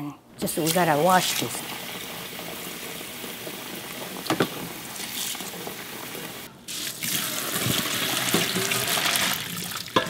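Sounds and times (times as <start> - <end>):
tap water running into pot: 0.6 - 10.0
water pouring into colander: 0.6 - 10.0.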